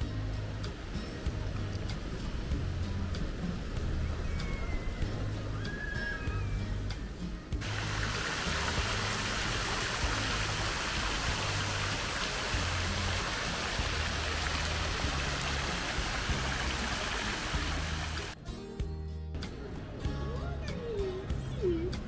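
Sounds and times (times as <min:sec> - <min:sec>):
water rushing: 0:00.0 - 0:18.4
quiet background music: 0:00.0 - 0:22.0.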